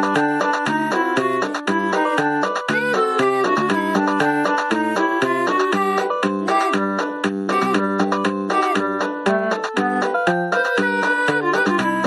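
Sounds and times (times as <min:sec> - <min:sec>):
electronic keyboard playing a tune: 0:00.0 - 0:12.0.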